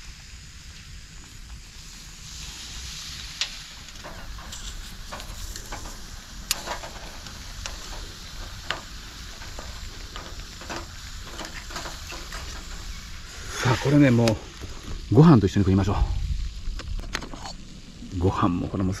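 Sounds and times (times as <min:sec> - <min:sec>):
crackles and sharp pops: 0:00.0 - 0:19.0
shellfish sizzling on a grill: 0:00.0 - 0:19.0.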